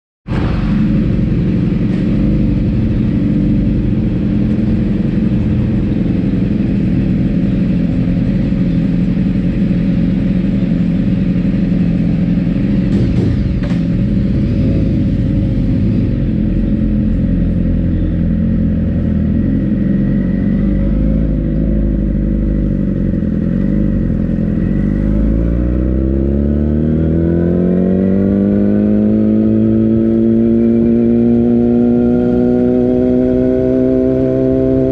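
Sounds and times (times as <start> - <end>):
motorcycle engine idling and revving: 0.2 - 34.9.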